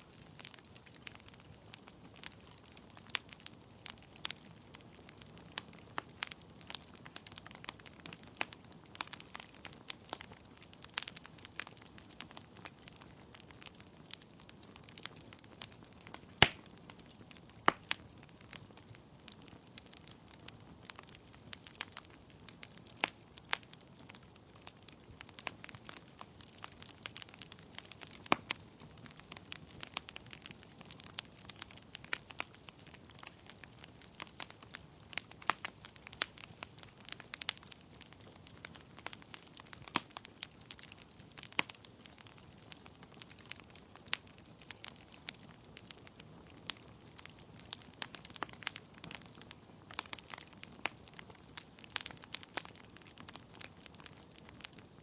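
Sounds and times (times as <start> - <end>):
low steady hiss: 0.0 - 55.0
wood fire crackling: 0.0 - 55.0.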